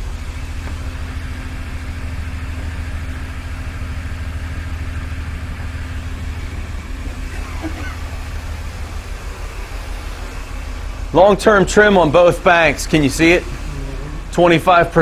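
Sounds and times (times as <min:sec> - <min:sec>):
car engine idling rough: 0:00.0 - 0:15.0.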